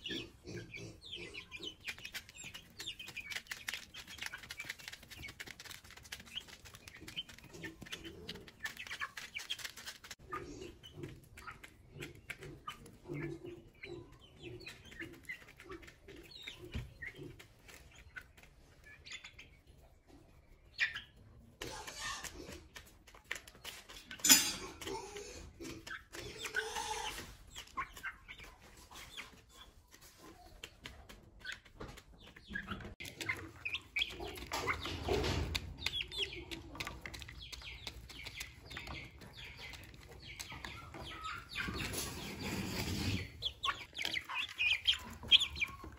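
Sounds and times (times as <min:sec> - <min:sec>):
beaks pecking plastic dish: 0:00.0 - 0:18.5, 0:25.6 - 0:42.2, 0:43.2 - 0:45.9
chicks chirping and clucking: 0:00.0 - 0:45.9.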